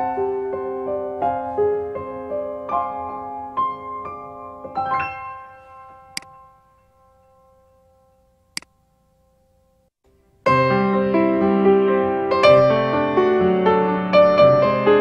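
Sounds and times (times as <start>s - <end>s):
piano music: 0.0s - 8.3s, 10.4s - 15.0s.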